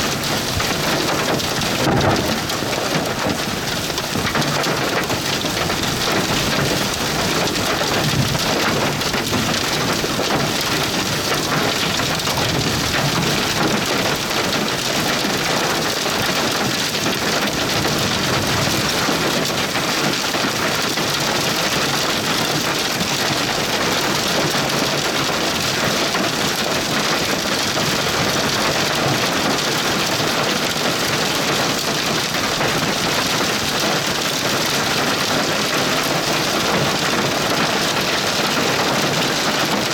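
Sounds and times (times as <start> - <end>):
heavy rain pelting: 0.0 - 39.9.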